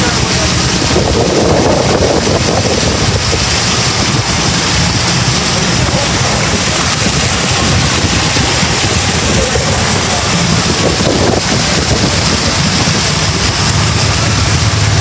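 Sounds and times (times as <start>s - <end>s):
boat engine: 0.0s - 15.0s
water noise: 0.0s - 15.0s
wind buffeting microphone: 0.0s - 15.0s.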